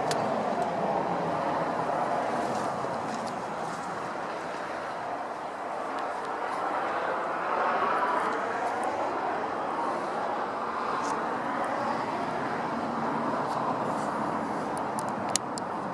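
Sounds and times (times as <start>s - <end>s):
road traffic whoosh: 0.0s - 15.9s.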